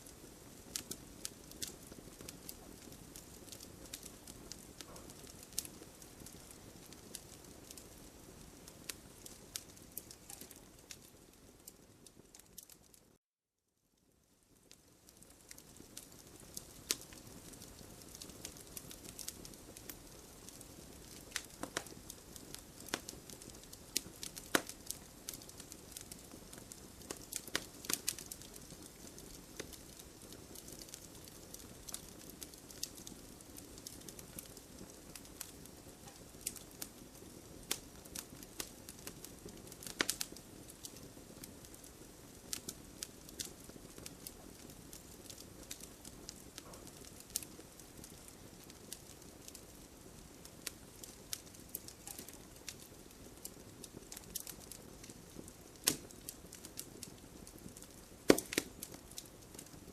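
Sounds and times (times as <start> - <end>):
campfire crackling: 0.0 - 13.2, 14.4 - 59.9
sharp pops of burning wood: 0.1 - 11.7, 14.7 - 59.8.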